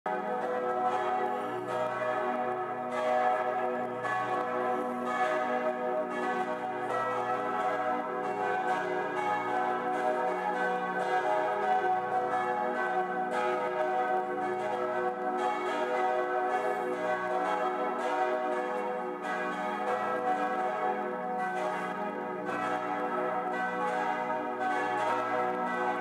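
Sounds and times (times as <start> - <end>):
church bells ringing together: 0.1 - 26.0.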